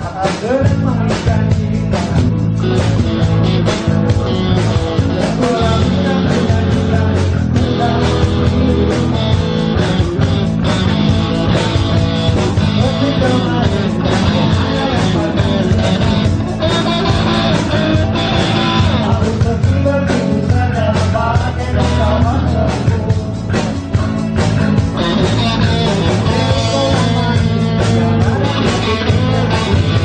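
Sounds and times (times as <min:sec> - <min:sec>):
bass guitar: 0:00.0 - 0:30.0
drums beating: 0:00.0 - 0:30.0
electric guitars: 0:00.0 - 0:30.0
person singing: 0:00.0 - 0:30.0.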